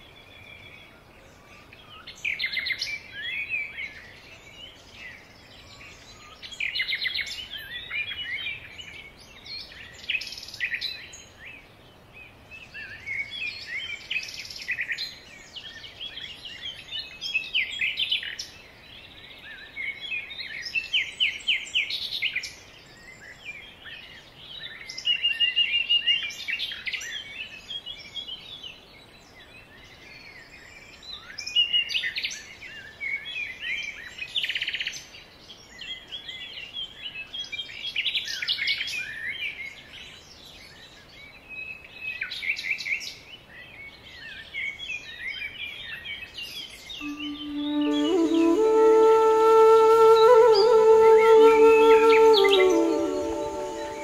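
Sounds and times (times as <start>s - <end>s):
forest birds singing: 0.0s - 54.0s.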